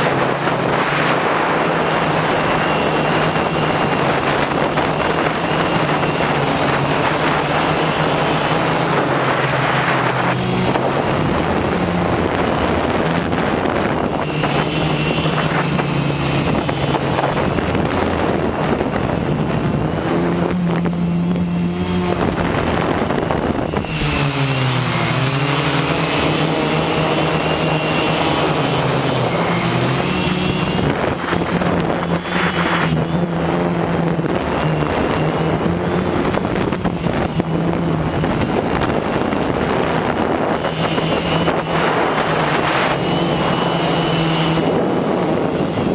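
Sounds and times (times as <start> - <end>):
drone propellers buzzing: 0.0 - 45.9
steady rushing noise: 0.0 - 45.9.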